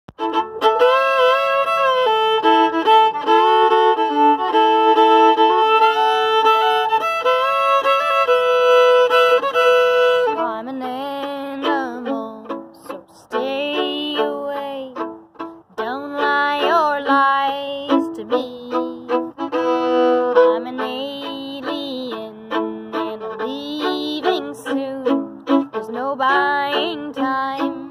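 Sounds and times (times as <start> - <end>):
solo violin melody: 0.1 - 27.9.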